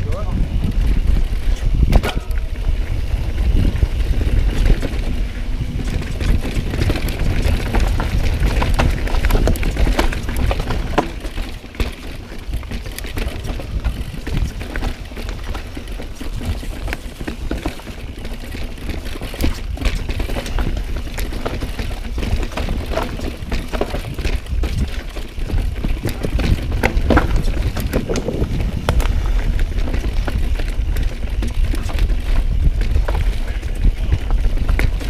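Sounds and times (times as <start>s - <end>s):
mountain bike rattling: 0.0s - 35.0s
wheels knocking over rocks: 0.0s - 35.0s
wind rumble on microphone: 0.0s - 35.0s.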